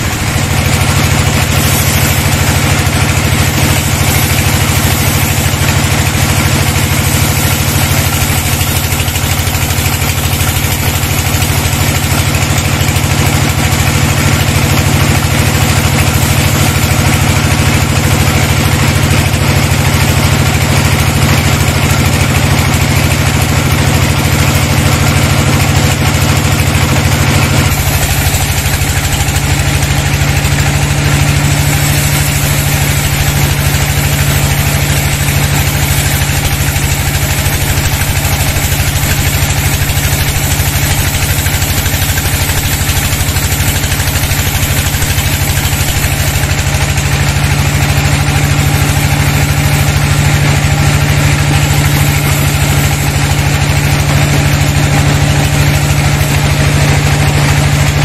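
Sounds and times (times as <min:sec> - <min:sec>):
saw blade hissing through wood: 0:00.0 - 0:20.3, 0:24.4 - 0:54.8
sawmill machine drone: 0:00.0 - 0:58.0.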